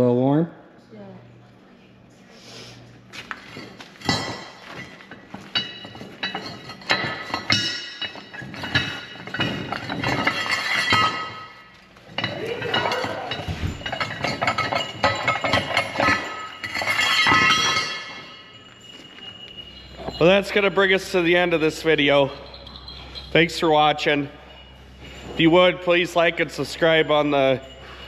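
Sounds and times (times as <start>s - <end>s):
metal parts clinking: 3.6s - 28.0s.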